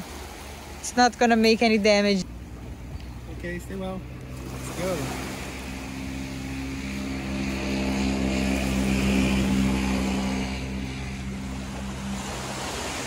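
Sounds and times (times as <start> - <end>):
motor humming passing by: 0.0 - 13.0.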